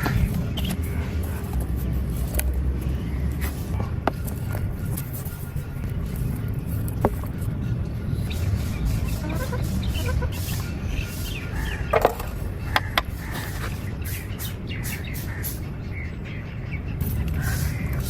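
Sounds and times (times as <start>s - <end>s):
clucking bird calls: 0.0s - 18.0s
steady low rumble: 0.0s - 18.0s.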